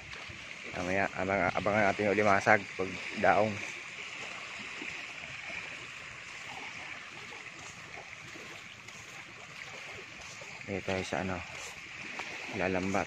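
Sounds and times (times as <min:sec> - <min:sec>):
small waves lapping on sand: 0:00.0 - 0:13.0.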